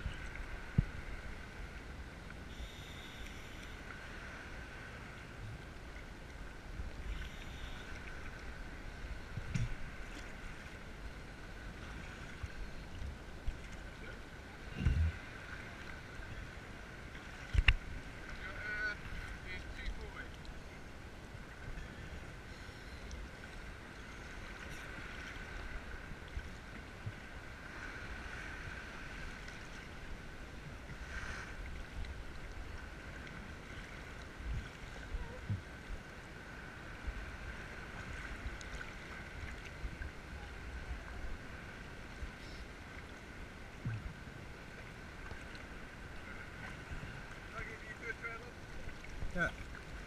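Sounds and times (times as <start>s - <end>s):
faint high hum: 0.0s - 50.0s
sea water sloshing and lapping: 0.0s - 50.0s.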